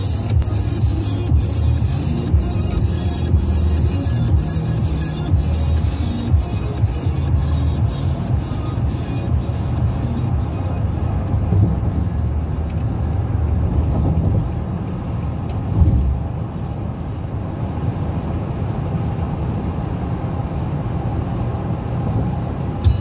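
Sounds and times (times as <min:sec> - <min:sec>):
car cabin road noise: 0:00.0 - 0:23.0.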